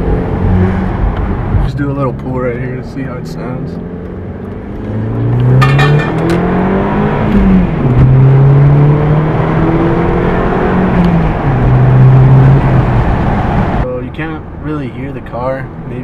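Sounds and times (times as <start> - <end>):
car engine accelerating hard: 0.0 - 13.8.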